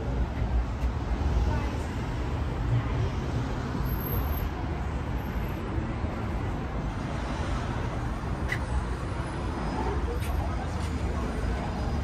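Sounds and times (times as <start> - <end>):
city street traffic rumble: 0.0 - 12.0.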